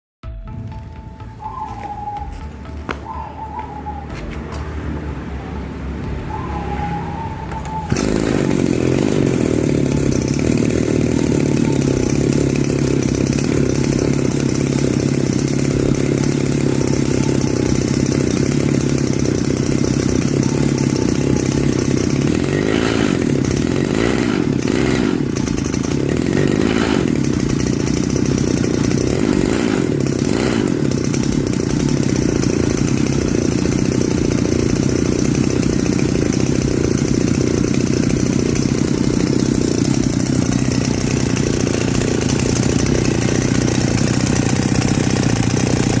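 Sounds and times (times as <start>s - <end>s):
scooter engine idling: 0.2s - 46.0s.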